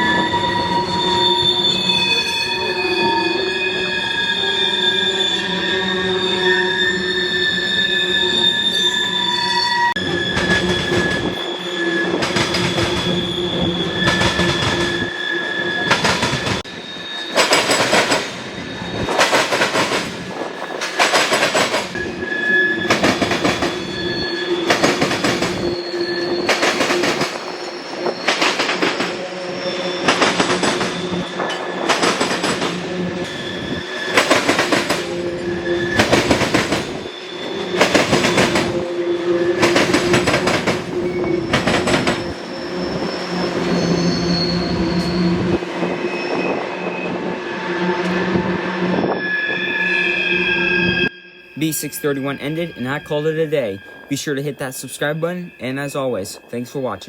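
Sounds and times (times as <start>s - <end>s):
train wheels squealing on rails: 0.0s - 57.0s.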